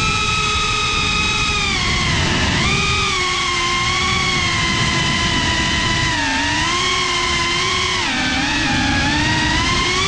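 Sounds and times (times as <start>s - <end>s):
drone motors and propellers whining: 0.0s - 10.0s.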